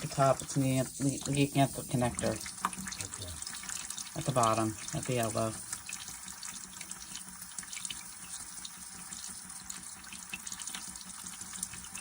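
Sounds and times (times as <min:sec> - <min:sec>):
water leaking with hiss: 0:00.0 - 0:12.0.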